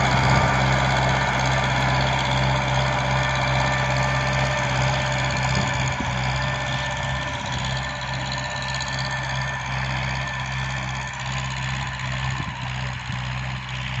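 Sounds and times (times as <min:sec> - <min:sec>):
rotary tiller whining: 0:00.0 - 0:14.0
tractor diesel engine drone: 0:00.0 - 0:14.0.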